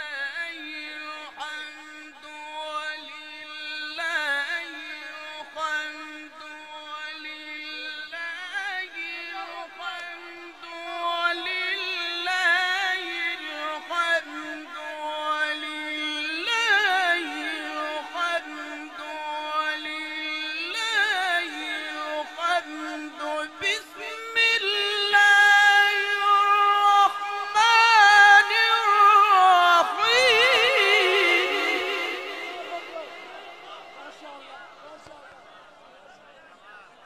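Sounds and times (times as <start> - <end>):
man reciting in melodic sung style: 0.0 - 37.0.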